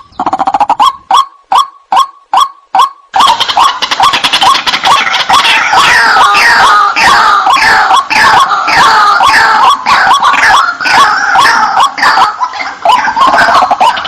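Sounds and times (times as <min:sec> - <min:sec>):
waterhen calling harsh repeated notes: 0:00.0 - 0:14.0.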